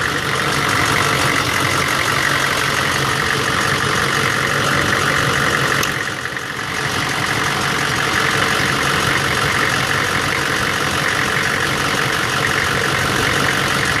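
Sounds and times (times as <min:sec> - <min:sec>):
diesel engine idling roughly: 0:00.0 - 0:14.0.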